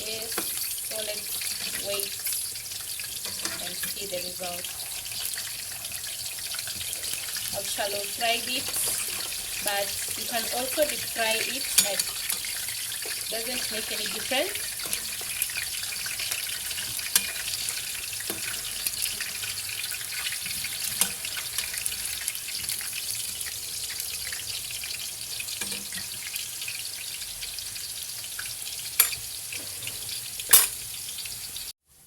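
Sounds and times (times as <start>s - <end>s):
oil popping and crackling: 0.0s - 31.7s
potatoes sizzling in hot oil: 0.0s - 32.0s.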